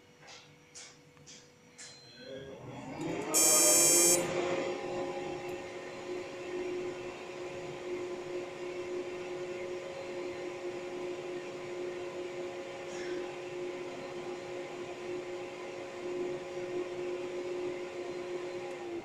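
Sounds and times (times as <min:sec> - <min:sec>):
printer cooling fan hum: 0:03.2 - 0:19.0.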